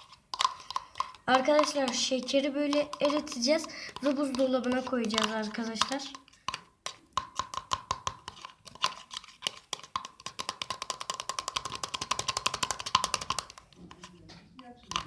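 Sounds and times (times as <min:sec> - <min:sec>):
utensil clicking against container: 0:00.0 - 0:15.0.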